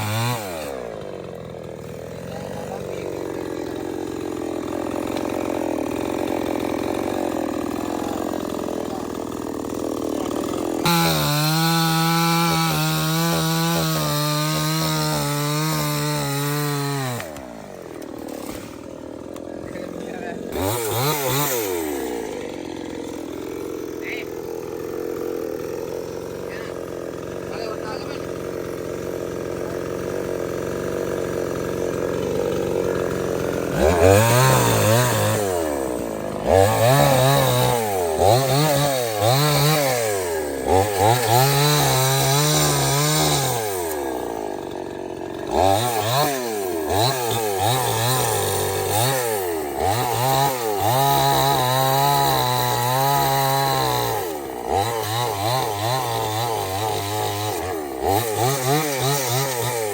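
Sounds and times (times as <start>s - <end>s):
chainsaw revving cutting wood: 0.0s - 59.9s.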